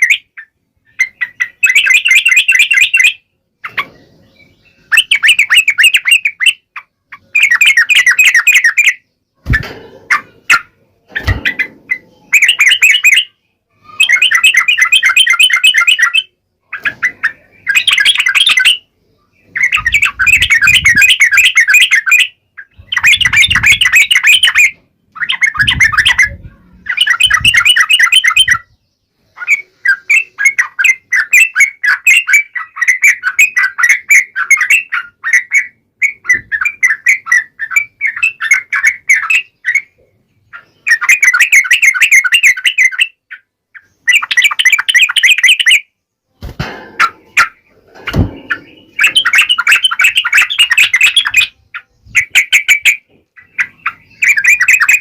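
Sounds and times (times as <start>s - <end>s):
bulbul chattering song: 0.0s - 55.0s.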